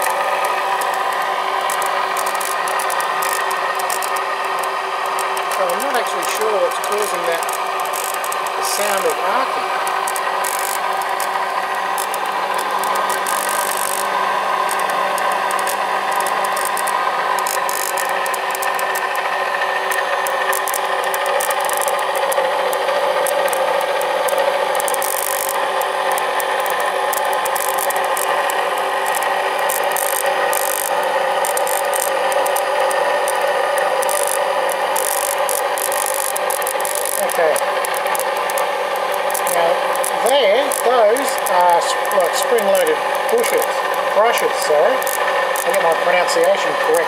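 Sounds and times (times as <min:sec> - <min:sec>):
brushes crackling: 0:00.0 - 0:19.0, 0:23.2 - 0:47.0
motor-generator whine: 0:00.0 - 0:47.0.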